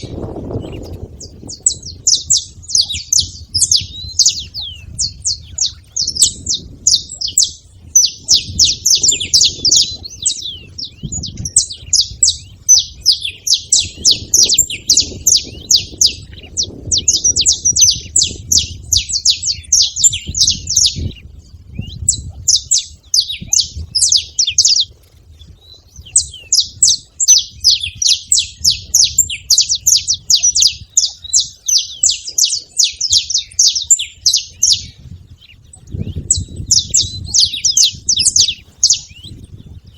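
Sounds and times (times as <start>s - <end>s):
finches singing and chattering: 0.0s - 39.9s.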